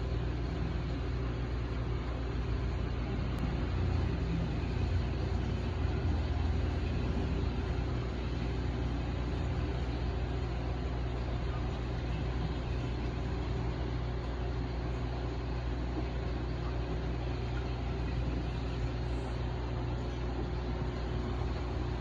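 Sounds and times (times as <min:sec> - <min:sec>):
constant hiss: 0:00.0 - 0:22.0
low equipment hum: 0:00.0 - 0:22.0.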